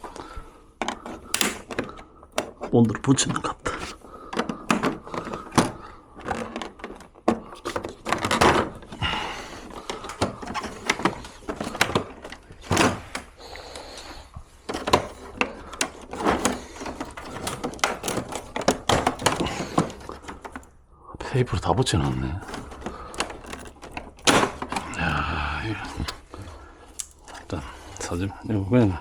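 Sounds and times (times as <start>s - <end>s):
plastic parts clicking and scraping: 0.0s - 28.3s.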